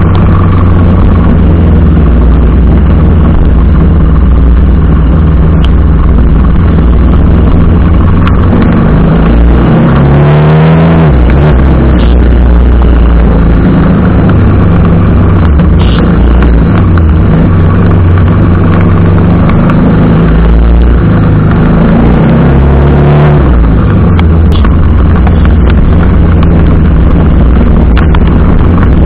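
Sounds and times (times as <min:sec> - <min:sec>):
constant rushing noise: 0:00.0 - 0:29.0
motorcycle engine running: 0:00.0 - 0:29.0.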